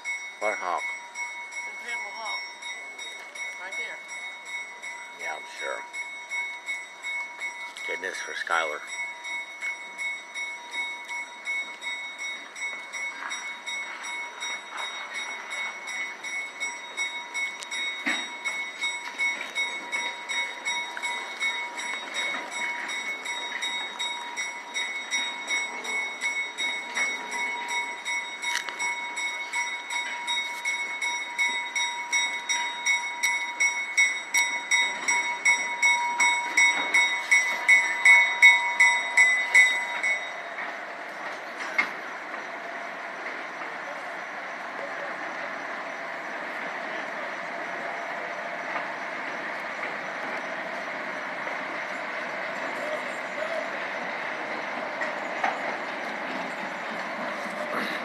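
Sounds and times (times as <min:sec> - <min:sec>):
train wheels clacking over rail joints: 0:09.6 - 0:58.0.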